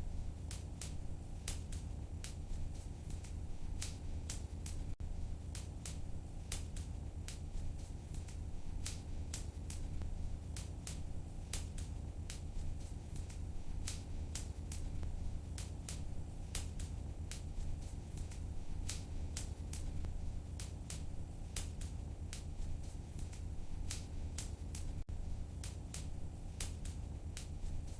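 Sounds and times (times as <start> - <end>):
low rumble of flames: 0.0 - 27.9
wood fire snaps and pops: 0.4 - 27.9.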